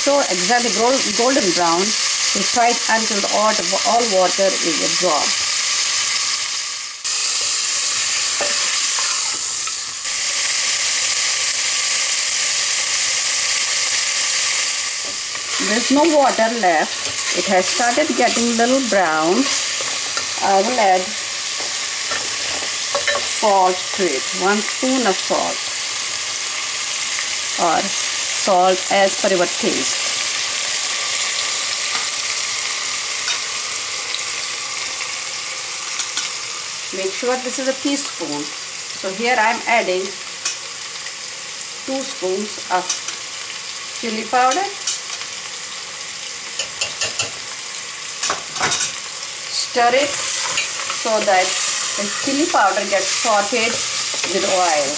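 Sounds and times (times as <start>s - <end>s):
meat sizzling in oil: 0.0s - 54.9s.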